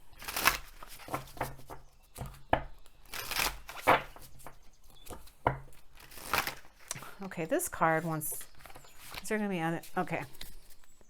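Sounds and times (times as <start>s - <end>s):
cards being shuffled: 0.2s - 2.3s, 3.1s - 7.3s, 7.9s - 11.0s.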